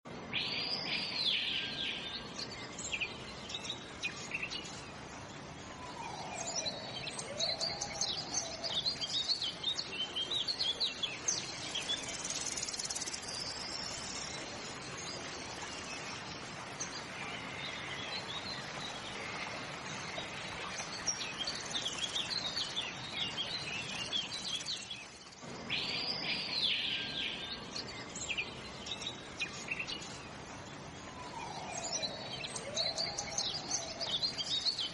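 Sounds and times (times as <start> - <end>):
steady outdoor hiss: 0.1 - 34.9.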